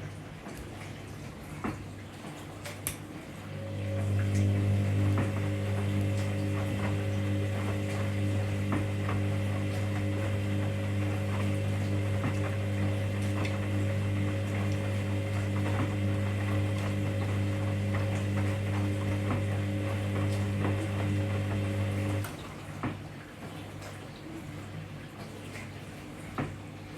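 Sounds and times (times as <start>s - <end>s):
washing machine humming: 0.0s - 26.9s.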